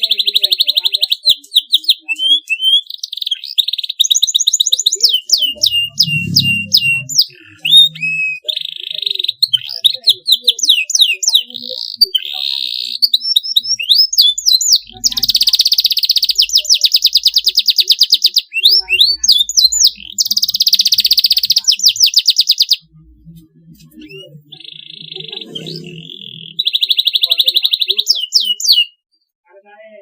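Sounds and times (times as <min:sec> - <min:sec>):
canary singing: 0:00.0 - 0:29.3.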